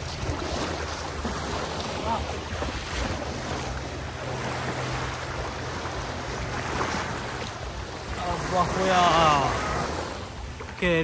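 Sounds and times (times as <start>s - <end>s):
wind on microphone: 0.0s - 10.7s
boat motor humming: 0.0s - 11.0s
water washing: 0.0s - 11.0s.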